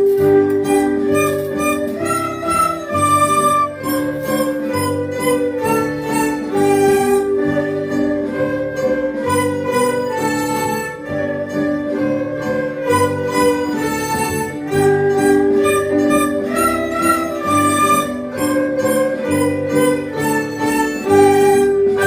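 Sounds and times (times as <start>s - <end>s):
bamboo flute: 0.0s - 22.0s
erhu bowing melody: 0.0s - 22.0s
plucked strings: 0.0s - 22.0s.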